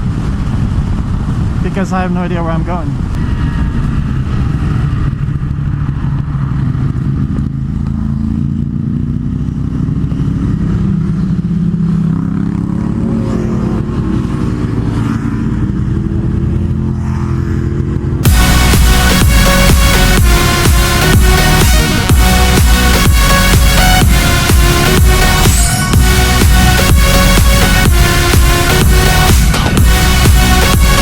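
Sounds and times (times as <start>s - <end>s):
motorcycle engine accelerating: 3.0s - 31.0s.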